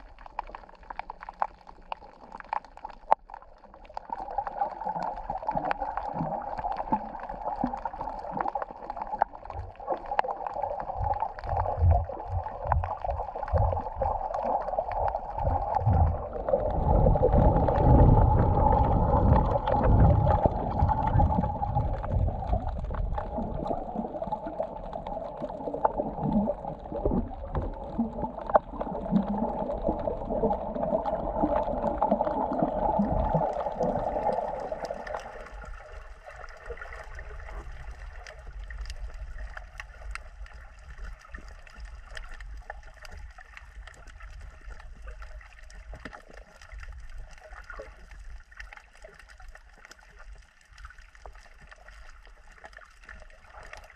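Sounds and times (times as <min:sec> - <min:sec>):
muffled underwater hiss: 0:04.0 - 0:53.9.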